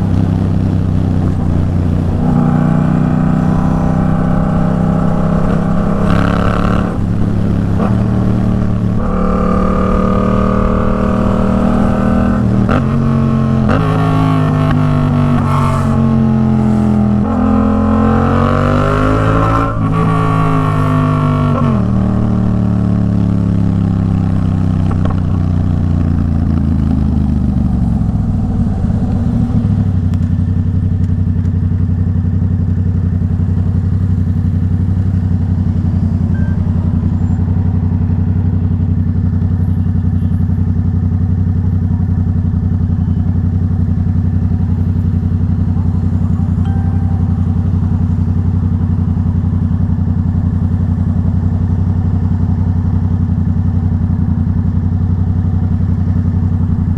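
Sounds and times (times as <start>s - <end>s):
motorcycle engine revving and idling: 0.0s - 56.9s.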